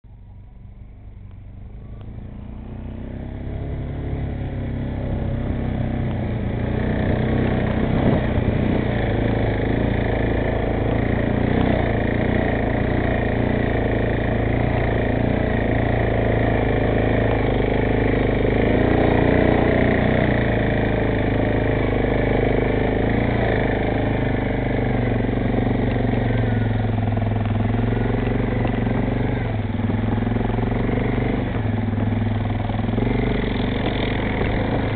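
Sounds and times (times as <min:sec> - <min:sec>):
atv engines running: 0:00.1 - 0:34.9.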